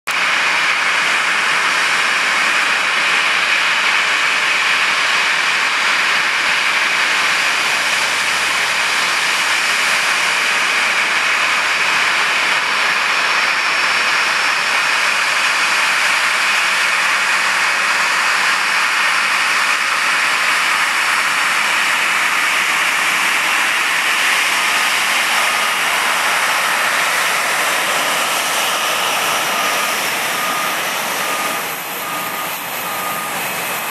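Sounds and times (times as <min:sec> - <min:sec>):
jet engines idling: 0:00.1 - 0:33.9.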